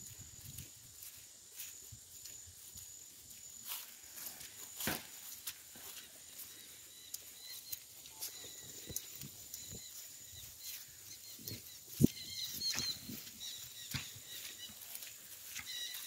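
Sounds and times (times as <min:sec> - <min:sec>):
footsteps on wet grass: 0:00.0 - 0:16.0.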